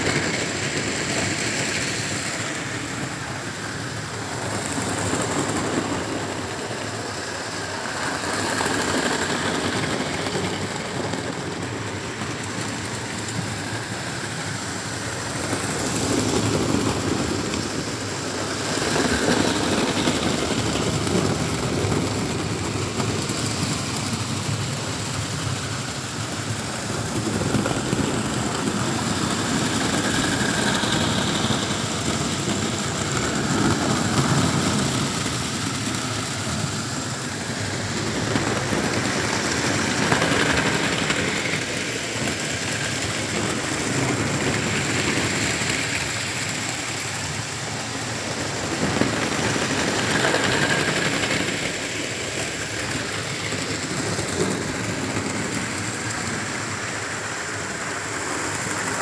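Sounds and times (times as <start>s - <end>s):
model train motor whir: 0.0s - 59.0s
wheels rattling over rails: 0.0s - 59.0s.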